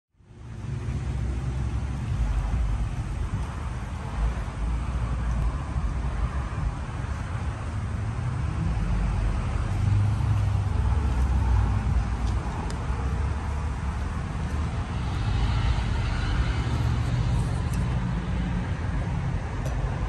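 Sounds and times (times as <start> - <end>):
compressor low hum: 0.2 - 20.0
condenser fan air rush: 0.2 - 20.0.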